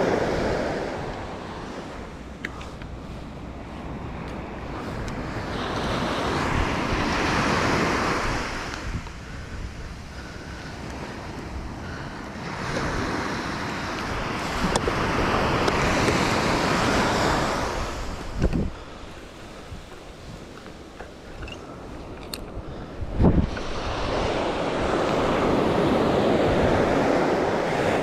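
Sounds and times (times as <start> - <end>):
waves breaking on a beach: 0.0 - 28.0
wind on the microphone: 0.0 - 28.0.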